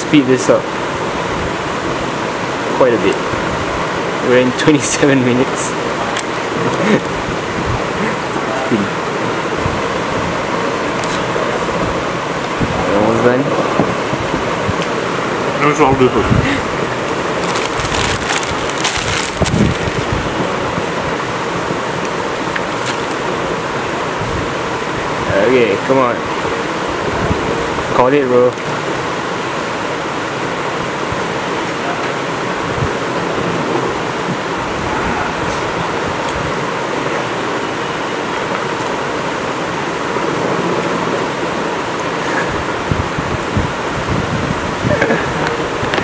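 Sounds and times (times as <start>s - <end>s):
steady rushing noise: 0.0s - 46.0s.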